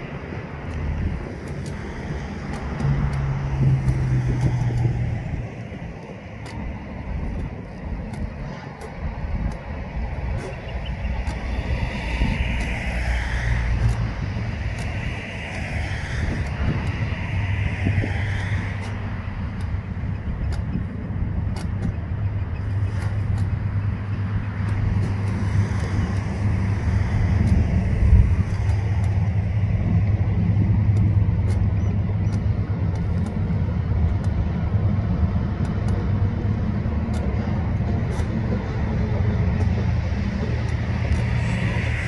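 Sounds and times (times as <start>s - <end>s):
diesel locomotive engine rumble: 0.0s - 42.0s.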